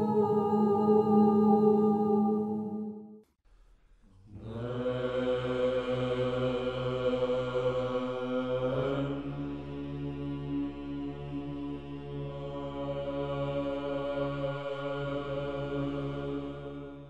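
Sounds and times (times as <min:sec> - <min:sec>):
voices chanting long notes: 0:00.0 - 0:03.0, 0:04.3 - 0:17.0.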